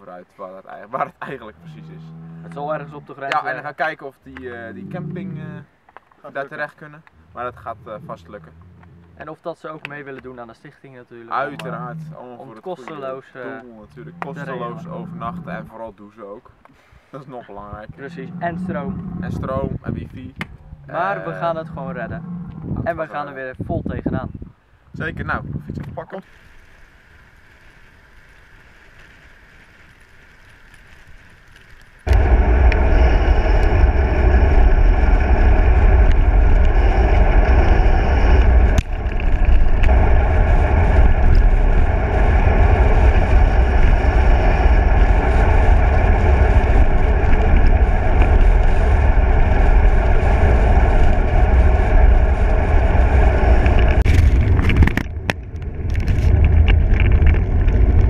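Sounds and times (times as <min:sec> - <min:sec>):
wind and road noise rumble: 0:00.0 - 0:58.0.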